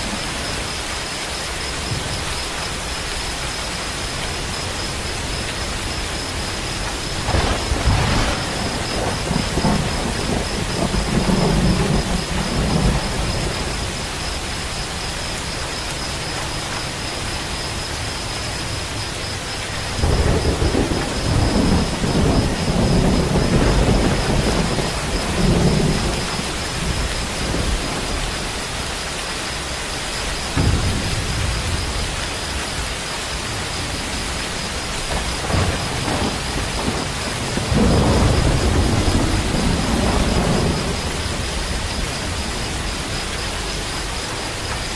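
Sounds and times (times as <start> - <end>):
heavy rain: 0.0 - 44.9
thunder rumbling: 0.0 - 44.9.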